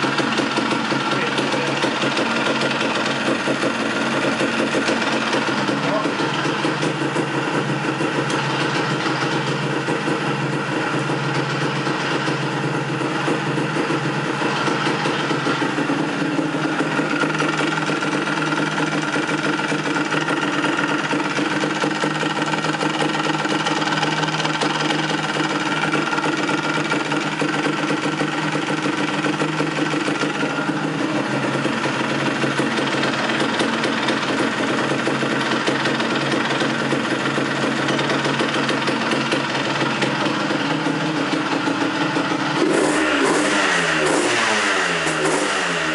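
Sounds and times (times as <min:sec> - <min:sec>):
rapid metallic rattle: 0:00.0 - 0:43.5
motorcycle engine idling: 0:00.0 - 0:45.9.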